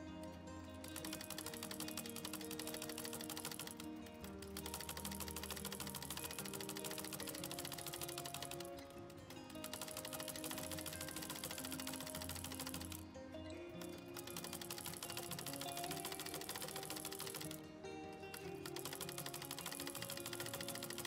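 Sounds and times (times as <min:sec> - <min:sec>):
background music: 0:00.0 - 0:21.0
sewing machine needle clattering: 0:00.2 - 0:13.1, 0:13.7 - 0:21.0.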